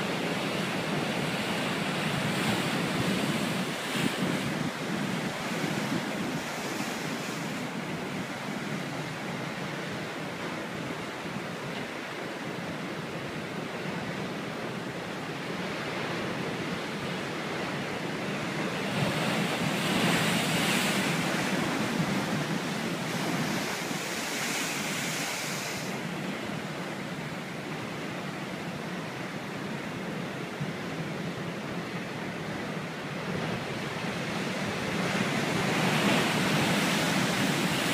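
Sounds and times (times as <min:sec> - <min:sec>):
waves breaking on rocky shore: 0:00.0 - 0:14.8, 0:15.4 - 0:31.7, 0:32.3 - 0:37.9.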